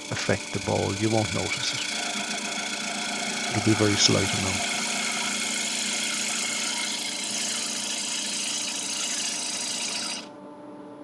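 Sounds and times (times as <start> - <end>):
wood lathe motor humming: 0.0 - 10.4.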